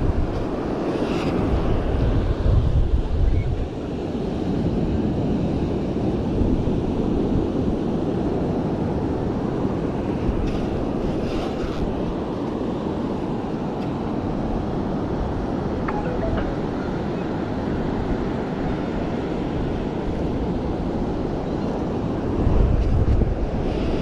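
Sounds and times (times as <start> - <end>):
wind buffeting microphone: 0.0 - 12.4, 13.0 - 24.0
surf washing: 0.0 - 24.0.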